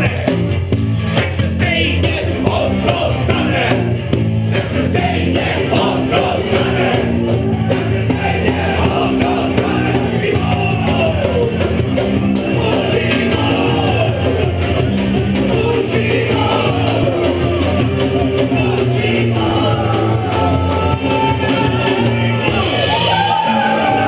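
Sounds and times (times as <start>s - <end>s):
folk-rock band playing: 0.0s - 24.0s
person singing: 1.2s - 24.0s.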